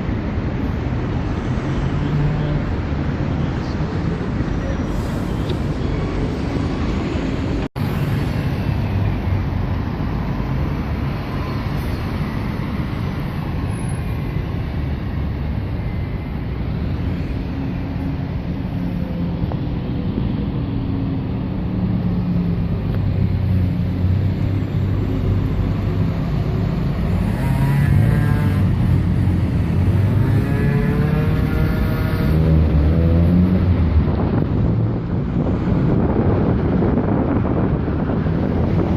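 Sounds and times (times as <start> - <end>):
buses and road traffic passing: 0.0 - 38.9
vehicle engine pulling through: 0.9 - 38.9.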